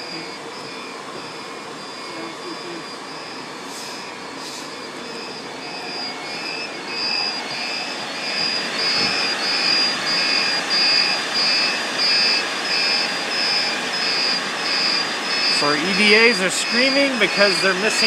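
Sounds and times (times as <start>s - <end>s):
electronic alarm beeps: 0.0s - 18.0s
server fans rushing: 2.9s - 18.0s.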